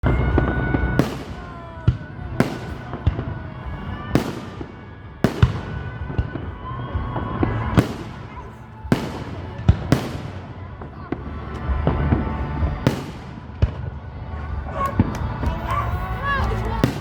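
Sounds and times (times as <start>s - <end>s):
fireworks bangs with crackling: 0.0s - 17.0s.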